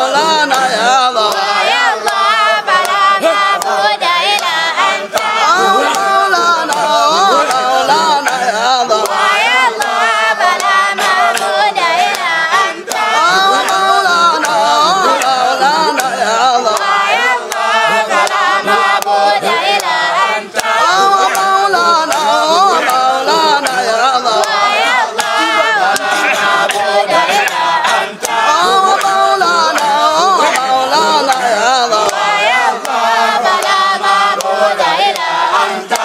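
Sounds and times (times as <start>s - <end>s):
men chanting together: 0.0s - 36.0s.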